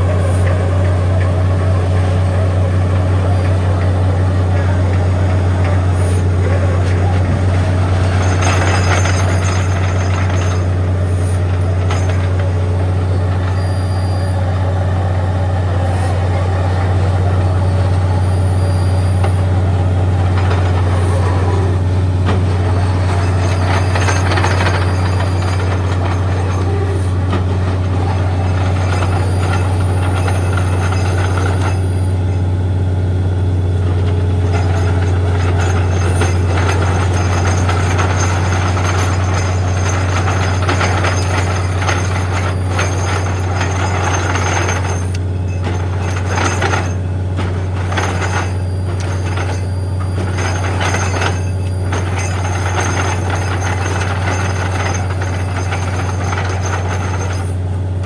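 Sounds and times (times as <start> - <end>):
drilling rig engine drone: 0.0 - 58.0.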